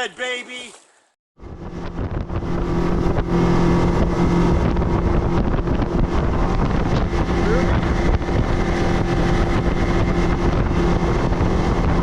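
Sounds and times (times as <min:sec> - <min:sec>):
boat motor humming: 0:01.4 - 0:12.0
wind buffeting microphone: 0:01.4 - 0:12.0.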